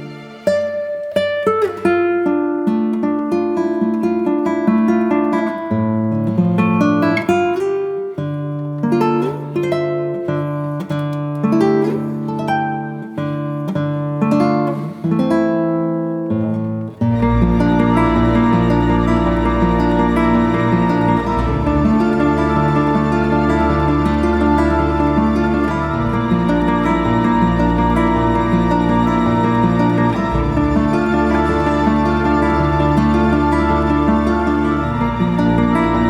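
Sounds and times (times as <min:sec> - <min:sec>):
fingerpicked acoustic guitar: 0:00.0 - 0:36.0.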